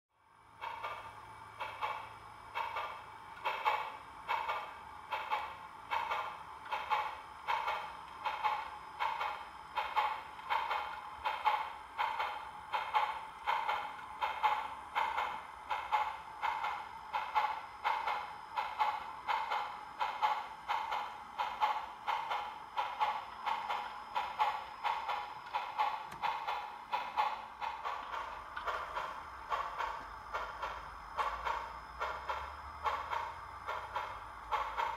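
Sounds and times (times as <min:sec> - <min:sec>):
model steam locomotive chuffing: 0:00.5 - 0:34.9.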